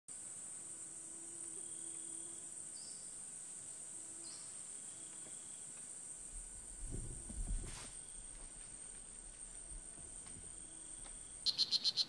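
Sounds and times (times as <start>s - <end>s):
insects buzzing: 0.1s - 12.0s.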